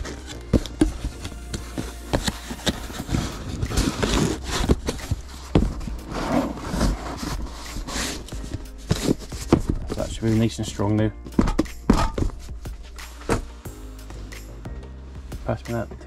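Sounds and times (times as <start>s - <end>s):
cardboard scraping and rustling: 0.0s - 13.6s.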